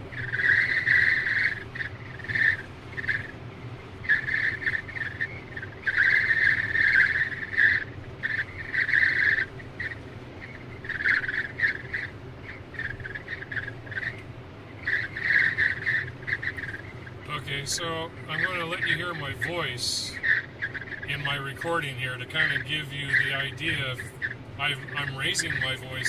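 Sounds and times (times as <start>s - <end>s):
road rumble: 0.0s - 26.0s
wind whistling at car window: 0.0s - 26.0s.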